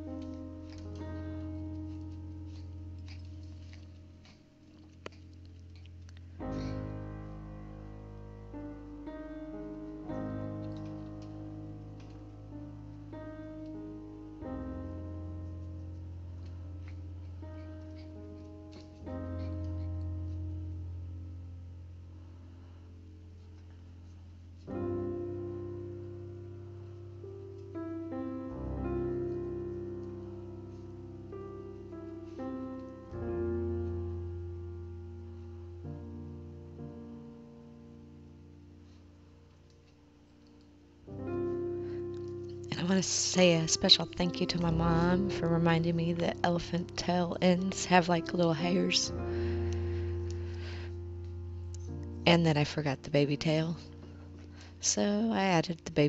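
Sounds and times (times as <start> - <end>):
piano chords: 0.0 - 56.0.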